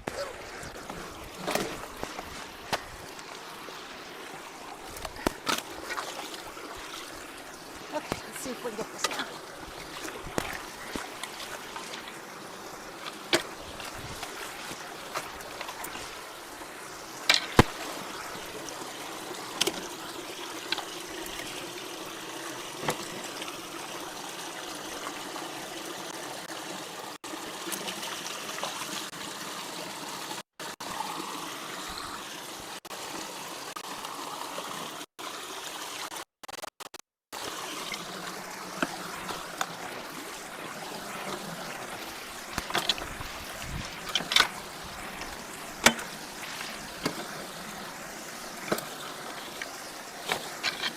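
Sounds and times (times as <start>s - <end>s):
creek water trickling: 0.0s - 36.2s, 37.3s - 50.9s.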